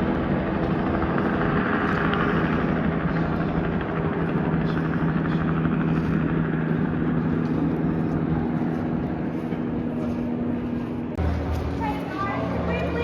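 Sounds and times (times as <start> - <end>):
twin radial engines droning: 0.0 - 13.0.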